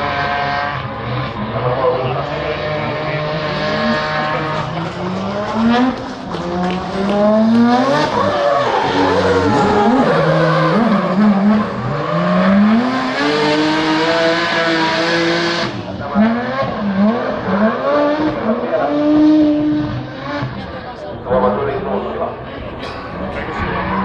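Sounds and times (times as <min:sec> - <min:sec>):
car engine revving hard: 0:00.0 - 0:22.2.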